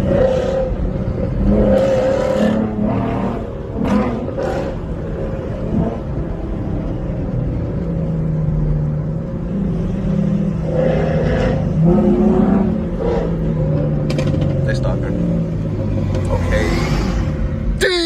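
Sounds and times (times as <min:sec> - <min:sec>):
car engine and exhaust driving: 0:00.0 - 0:18.0.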